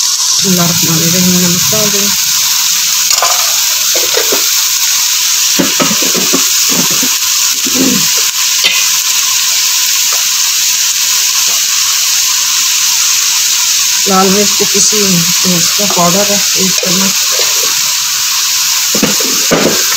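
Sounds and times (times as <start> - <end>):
onions sizzling in oil: 0.0 - 19.9.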